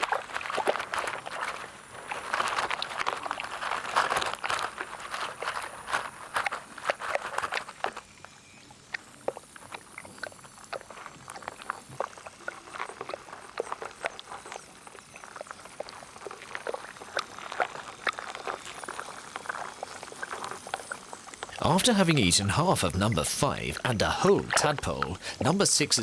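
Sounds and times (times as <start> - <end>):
small clicks and crackles: 0.0 - 22.4.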